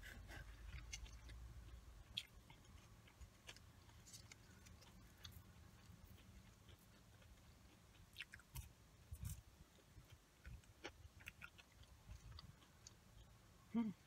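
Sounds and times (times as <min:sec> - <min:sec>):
faint chewing of fried food: 0:00.0 - 0:14.0.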